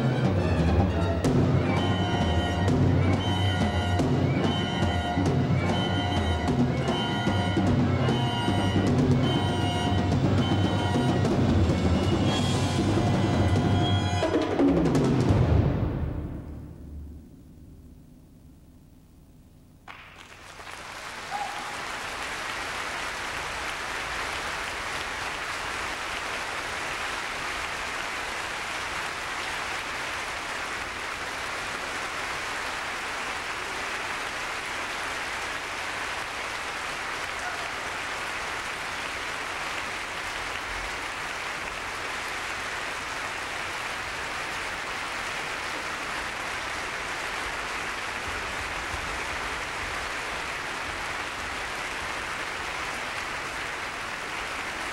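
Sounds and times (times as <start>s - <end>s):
audience applauding: 1.6s - 14.6s, 19.9s - 54.9s.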